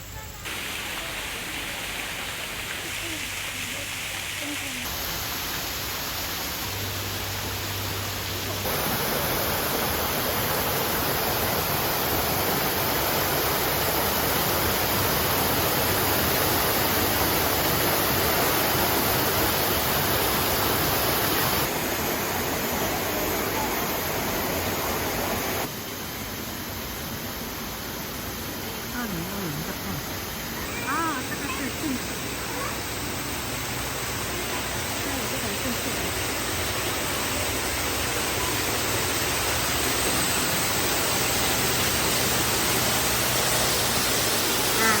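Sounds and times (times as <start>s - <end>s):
running water rushing: 0.0s - 45.0s.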